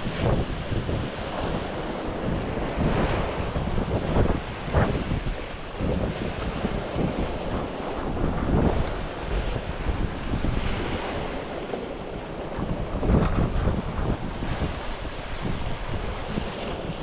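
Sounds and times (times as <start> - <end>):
sea waves: 0.0 - 17.0
wind buffeting microphone: 0.0 - 17.0.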